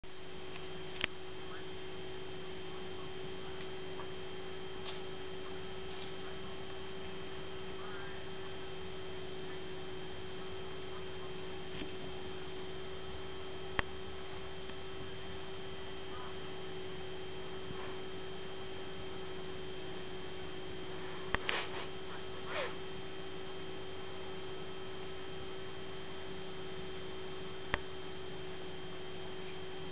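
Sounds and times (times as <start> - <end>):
steady electrical hum: 0.0 - 29.9.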